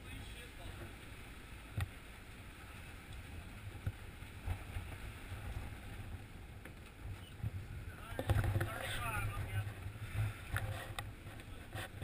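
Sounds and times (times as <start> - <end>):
boat engine rumble: 0.0 - 12.0
wind and water noise: 0.0 - 12.0.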